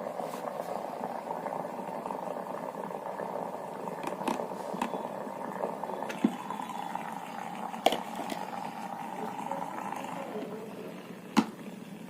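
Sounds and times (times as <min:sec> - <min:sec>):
steam vaporizer bubbling hiss: 0:00.0 - 0:12.0.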